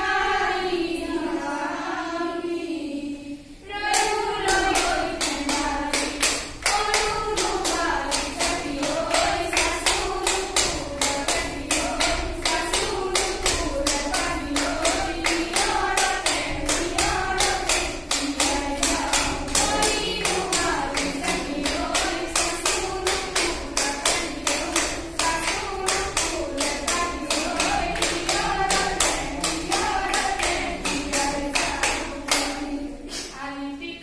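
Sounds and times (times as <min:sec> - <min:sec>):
rhythmic clapping: 0:00.0 - 0:02.2, 0:03.6 - 0:33.5
women singing together: 0:00.0 - 0:34.0.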